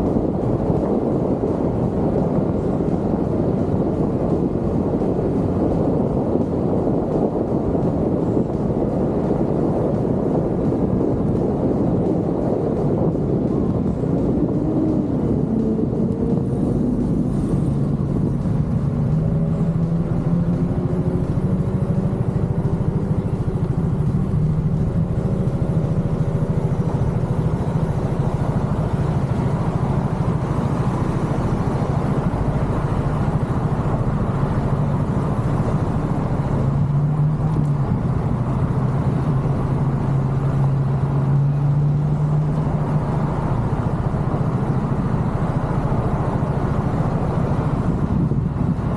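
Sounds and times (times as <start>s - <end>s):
scooter engine running: 0.0s - 40.2s
wind and road noise: 0.0s - 48.9s.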